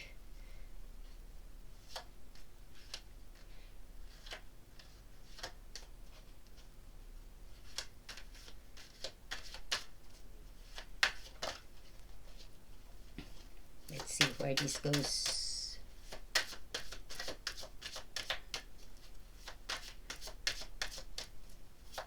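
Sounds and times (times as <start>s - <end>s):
cards being shuffled: 1.8s - 3.5s, 4.1s - 6.7s, 7.5s - 12.5s, 13.2s - 22.0s.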